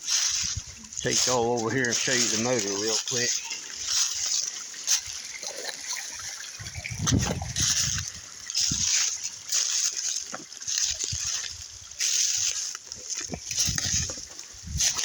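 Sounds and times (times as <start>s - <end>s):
footsteps crunching: 0.0s - 15.0s.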